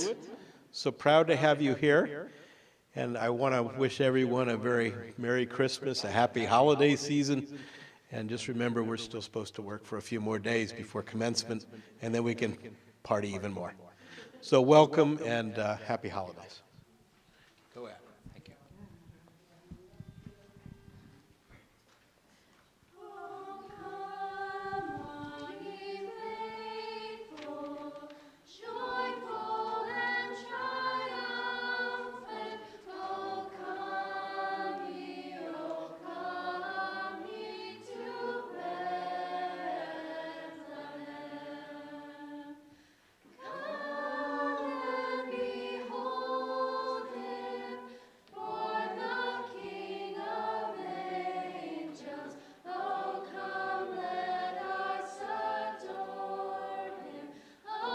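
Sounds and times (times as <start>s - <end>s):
a cappella group singing carol: 0.0s - 16.6s, 22.9s - 57.9s.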